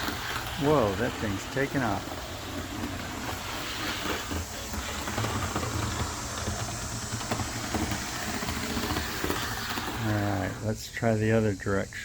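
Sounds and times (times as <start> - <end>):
model train motor and wheels running: 0.0 - 12.0.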